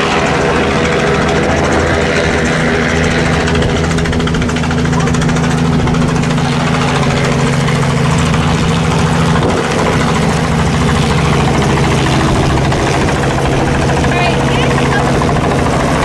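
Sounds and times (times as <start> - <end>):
helicopter engine and rotor idling: 0.0 - 16.0.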